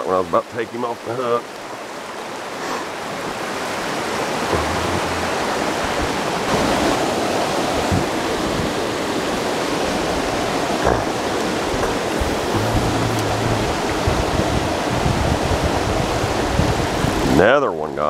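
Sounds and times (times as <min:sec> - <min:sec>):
water rushing over waterfall: 0:00.0 - 0:18.0.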